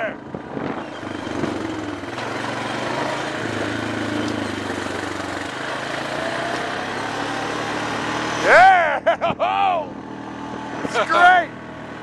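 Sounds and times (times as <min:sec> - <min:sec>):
quad engine droning: 0:00.0 - 0:12.0.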